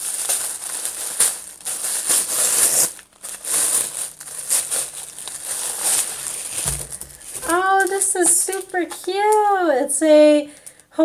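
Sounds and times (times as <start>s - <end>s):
wrapping paper crinkling: 0.0s - 9.6s.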